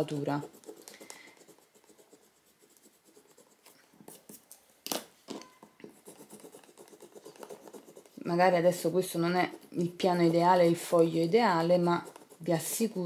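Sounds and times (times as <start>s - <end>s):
pens scratching on paper: 0.0s - 4.5s, 5.8s - 13.0s.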